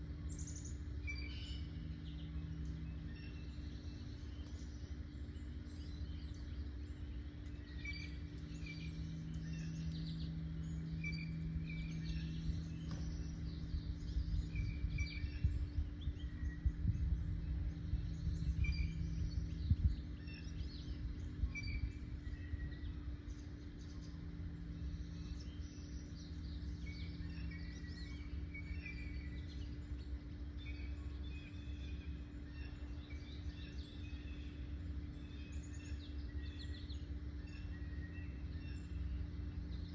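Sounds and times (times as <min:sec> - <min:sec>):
birds chirping and singing: 0:00.0 - 0:39.9
low background hum and rumble: 0:00.0 - 0:39.9.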